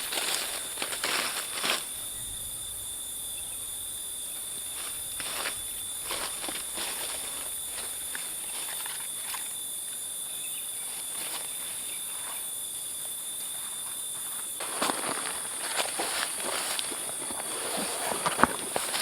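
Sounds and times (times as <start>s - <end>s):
rustling in dry leaves: 0.0s - 2.8s, 4.3s - 9.6s, 10.6s - 12.6s, 13.4s - 19.0s
insects chirring: 0.0s - 19.0s
thin steady tone: 0.0s - 19.0s.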